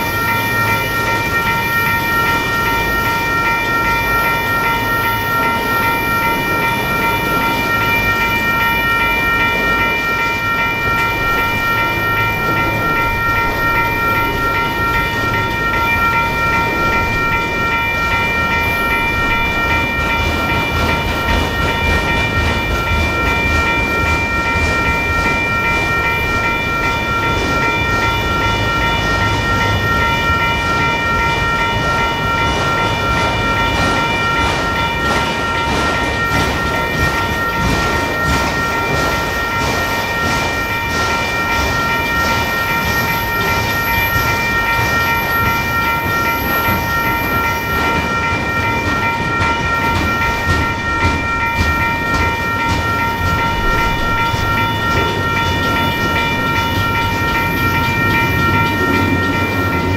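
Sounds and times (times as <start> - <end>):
crossing bell ringing: 0.0 - 59.9
freight train low rumble: 0.0 - 59.9
wheels ticking over rail joints: 0.0 - 59.9.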